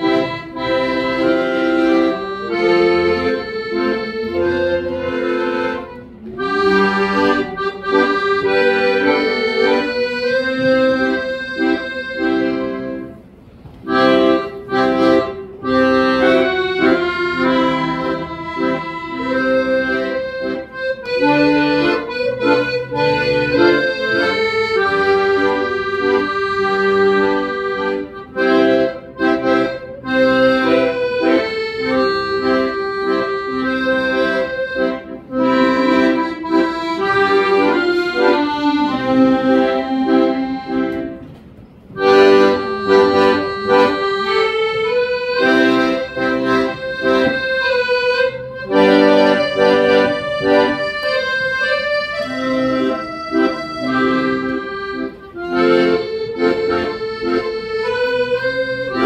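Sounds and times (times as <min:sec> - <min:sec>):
accordion playing: 0:00.0 - 0:59.0.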